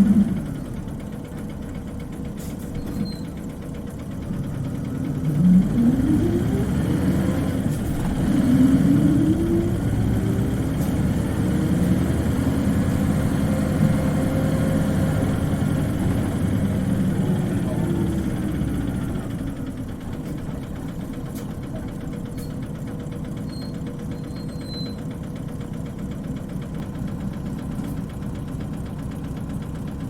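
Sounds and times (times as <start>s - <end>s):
bus engine accelerating with whine: 0.0s - 30.0s.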